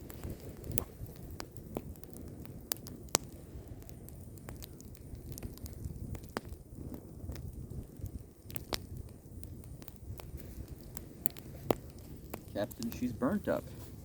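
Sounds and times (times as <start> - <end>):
fire burning with crackles and pops: 0.0 - 14.0.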